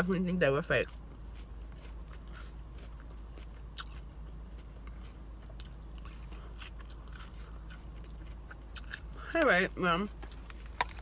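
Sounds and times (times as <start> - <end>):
steady low hum: 0.0 - 11.0
crisp chewing crunches: 0.8 - 9.4, 10.0 - 11.0.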